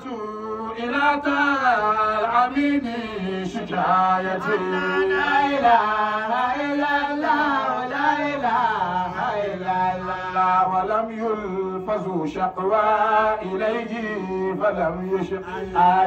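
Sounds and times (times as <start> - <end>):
men chanting into a microphone: 0.0 - 16.0.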